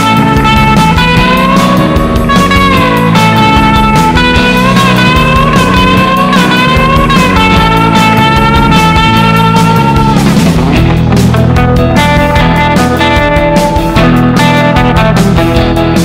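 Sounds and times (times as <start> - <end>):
guitar-led instrumental music: 0.0 - 16.0.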